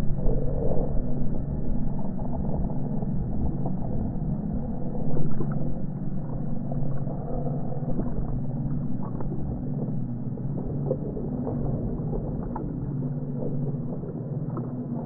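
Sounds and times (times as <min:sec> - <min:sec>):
low rumbling drone: 0:00.0 - 0:15.0
steady hum tones: 0:00.0 - 0:15.0
faint crackles: 0:01.7 - 0:15.0.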